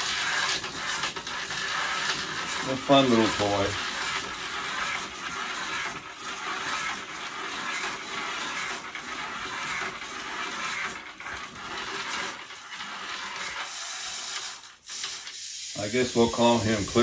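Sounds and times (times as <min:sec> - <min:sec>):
clockwork toy whirring rattle: 0:00.0 - 0:17.0.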